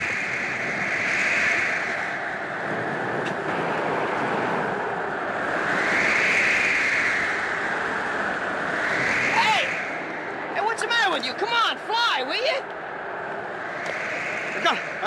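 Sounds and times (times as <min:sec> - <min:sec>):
wind blowing in gusts: 0:00.0 - 0:15.0.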